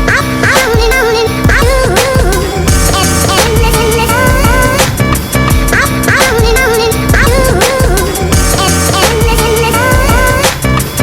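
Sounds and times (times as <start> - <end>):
music with steady beat and gliding melody: 0.0 - 11.0.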